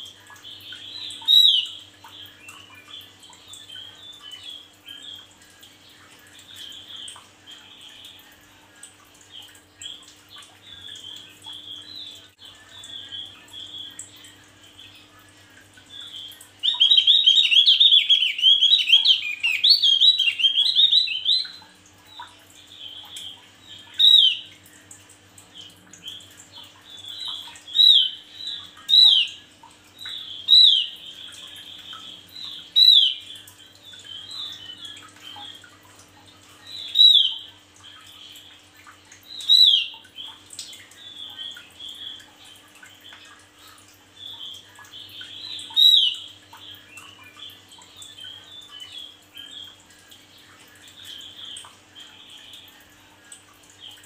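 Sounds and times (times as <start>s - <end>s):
bird singing twittering notes: 0.0s - 8.5s, 9.2s - 35.7s, 36.5s - 38.5s, 39.2s - 53.0s.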